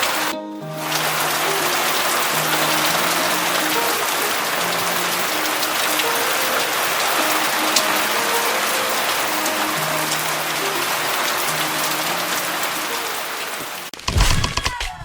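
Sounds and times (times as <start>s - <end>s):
soft background music: 0.0s - 13.9s
rain on a rooftop: 0.0s - 14.0s.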